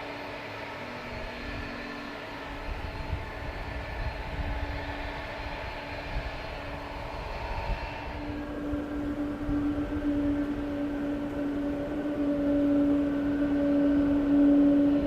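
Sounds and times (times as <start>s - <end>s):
jet engine whine and rumble: 0.0s - 15.0s.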